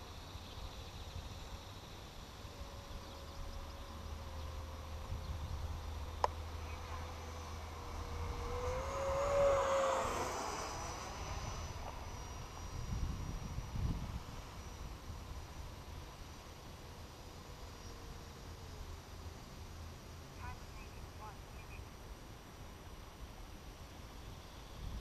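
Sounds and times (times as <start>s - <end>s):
electric ducted fan jet whining: 0.0s - 25.0s.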